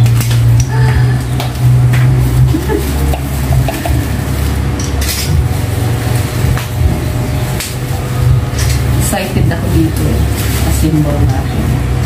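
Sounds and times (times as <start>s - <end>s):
bubble wrap rustling: 0.0s - 12.0s
steady low hum: 0.0s - 12.0s.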